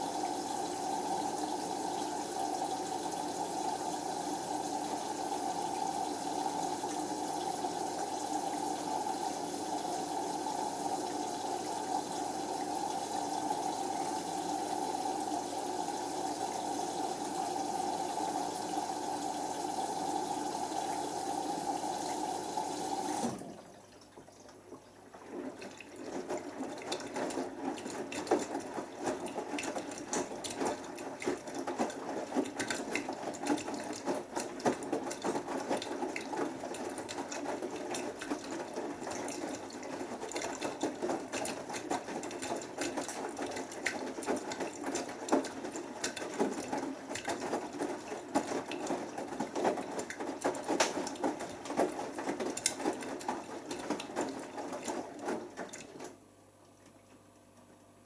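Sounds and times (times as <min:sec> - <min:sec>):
washing machine drum tumbling laundry: 0:00.0 - 0:58.0.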